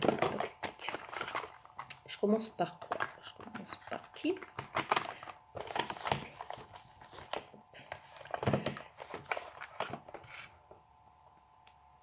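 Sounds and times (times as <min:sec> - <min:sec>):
packaging rustling: 0:00.0 - 0:02.0, 0:02.8 - 0:10.5.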